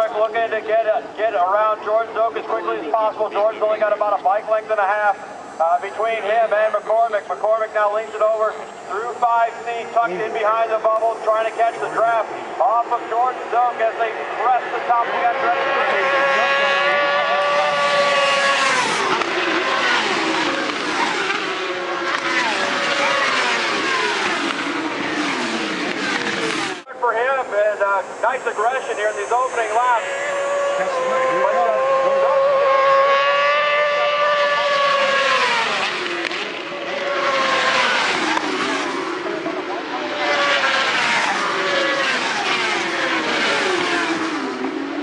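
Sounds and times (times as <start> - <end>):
motorbike engines at high speed: 0.0 - 45.0.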